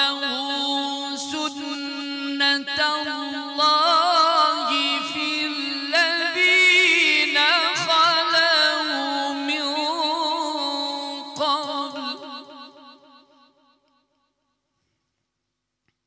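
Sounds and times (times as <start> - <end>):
man reciting melodically: 0.0 - 13.5.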